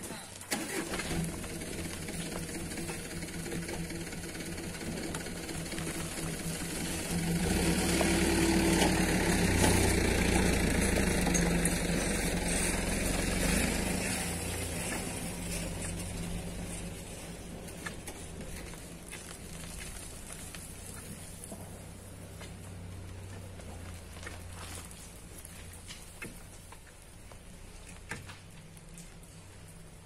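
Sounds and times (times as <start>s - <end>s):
engine running: 0.3s - 30.0s.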